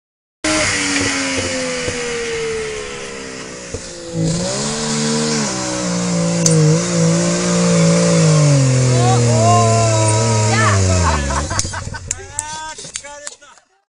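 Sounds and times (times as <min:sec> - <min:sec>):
car engine running: 0:00.4 - 0:13.0
road and wind noise: 0:00.4 - 0:13.1.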